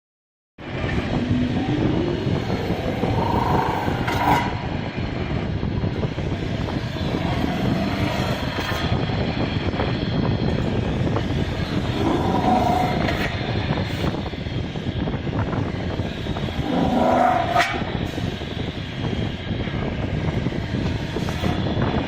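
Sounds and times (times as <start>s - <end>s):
metal spinning machine rumbling: 0.6s - 22.0s.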